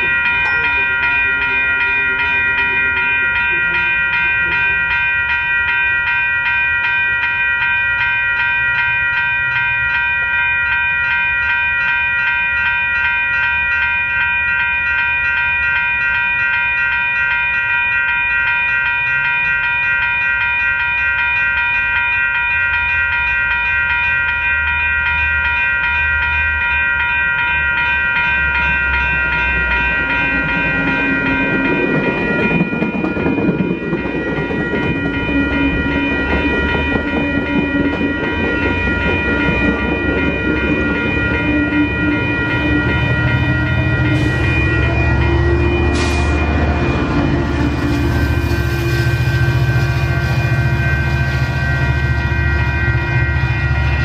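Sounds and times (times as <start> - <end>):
level-crossing warning bells: 0.0 - 54.0
train rumble and wheel noise: 0.0 - 54.0.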